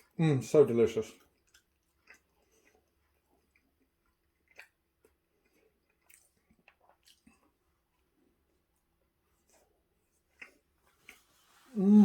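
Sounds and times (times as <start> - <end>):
chewing pastry: 0.0 - 12.0.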